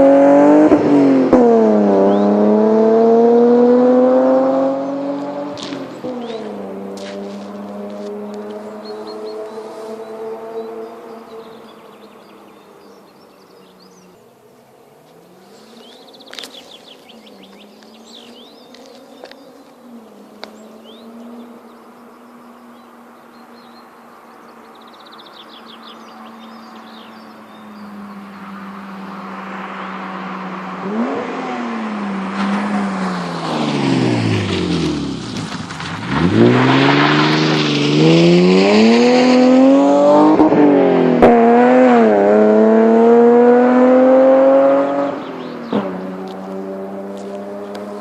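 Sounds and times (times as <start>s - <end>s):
car engine revving: 0.0s - 14.2s, 15.1s - 48.0s
birds chirping: 1.9s - 48.0s.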